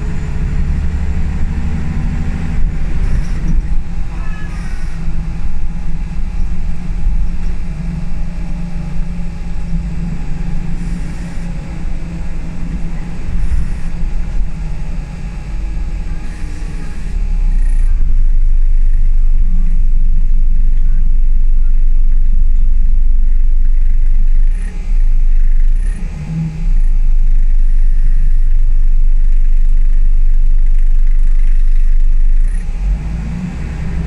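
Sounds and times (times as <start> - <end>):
rattles and squeaks: 0.0 - 24.8, 27.1 - 32.7
bus diesel engine drone: 0.0 - 34.0
low road rumble: 0.0 - 34.0.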